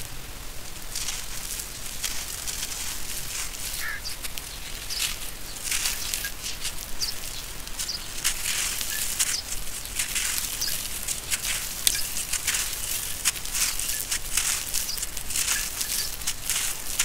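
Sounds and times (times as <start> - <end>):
grit pattering onto ground: 0.0 - 17.0.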